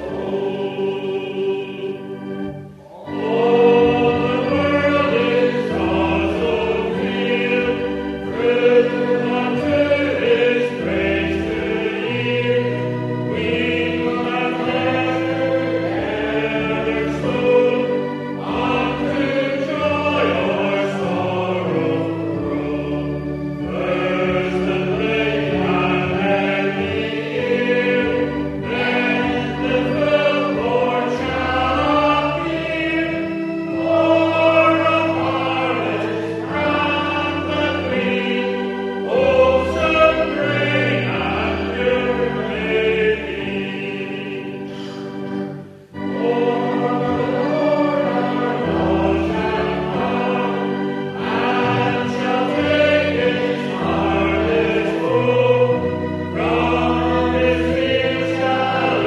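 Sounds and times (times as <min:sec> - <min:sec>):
congregation singing a hymn: 0:00.0 - 0:59.0
instrumental accompaniment chords: 0:00.0 - 0:59.0.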